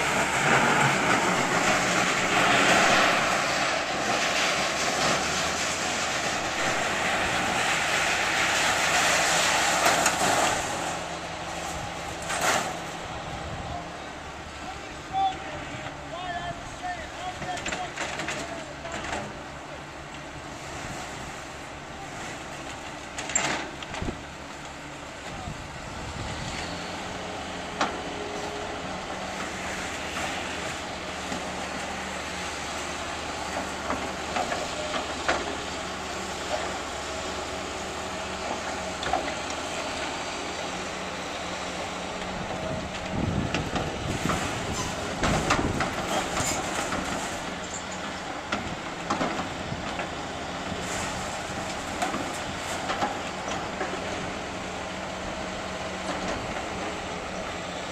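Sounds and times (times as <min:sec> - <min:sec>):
heavy machinery running: 0:00.0 - 0:57.9.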